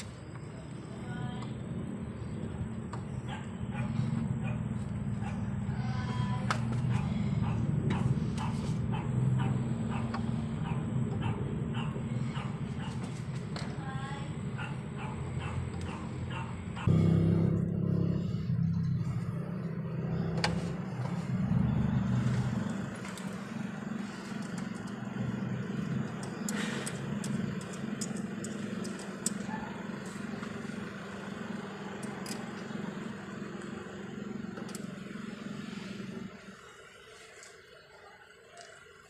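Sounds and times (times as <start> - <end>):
engine running with low hum: 0.0 - 39.0.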